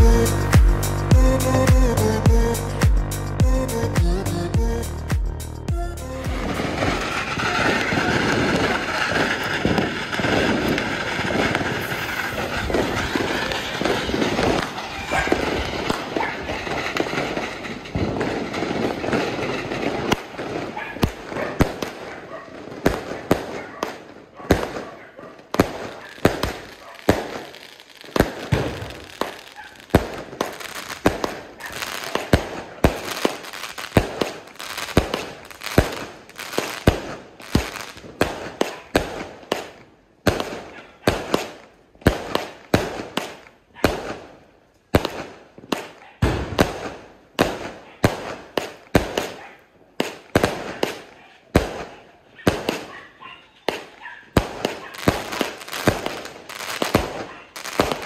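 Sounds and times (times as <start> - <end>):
firework bangs: 6.3 - 58.0.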